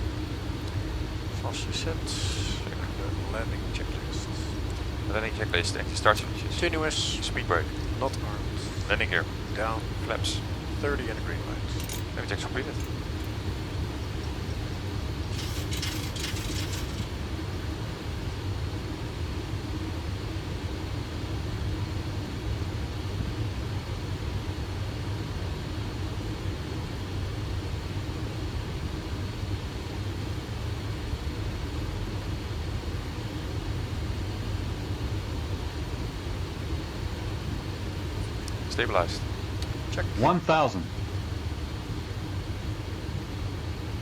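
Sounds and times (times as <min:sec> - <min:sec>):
cockpit rumble and airflow: 0:00.0 - 0:44.0.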